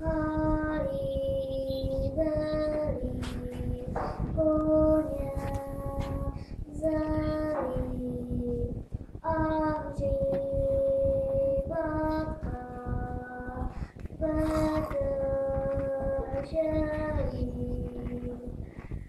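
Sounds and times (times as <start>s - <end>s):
child singing: 0.0s - 18.8s.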